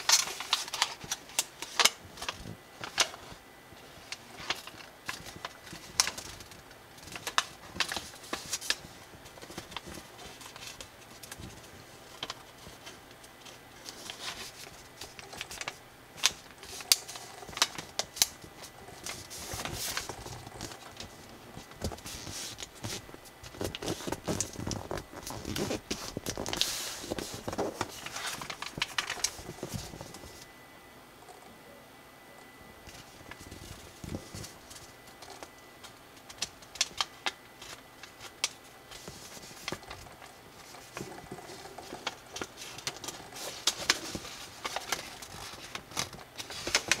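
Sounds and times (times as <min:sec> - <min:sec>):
paper being folded and creased: 0:00.0 - 0:30.5, 0:32.9 - 0:47.0.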